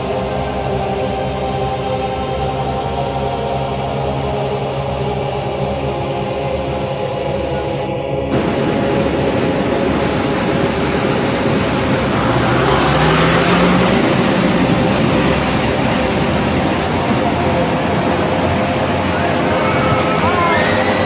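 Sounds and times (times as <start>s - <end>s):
flooded river rushing: 0.0s - 21.0s.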